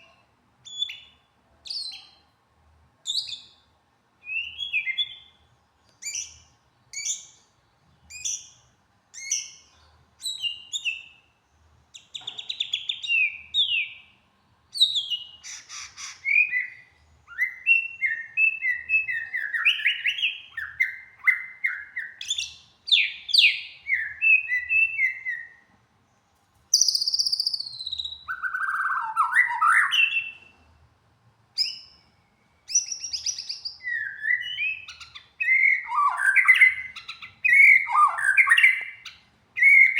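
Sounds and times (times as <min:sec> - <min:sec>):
songbird singing with trills: 0:00.0 - 0:02.3, 0:03.0 - 0:11.3, 0:12.0 - 0:25.7, 0:26.7 - 0:30.7, 0:31.6 - 0:39.9.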